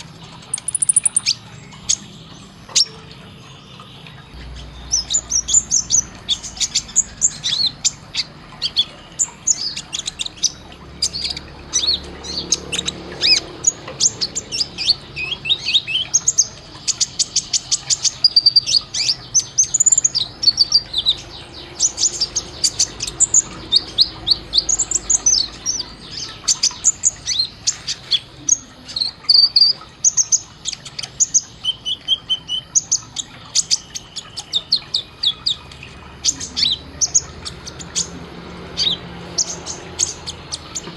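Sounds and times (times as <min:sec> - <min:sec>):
sunbird singing: 0:00.0 - 0:40.9.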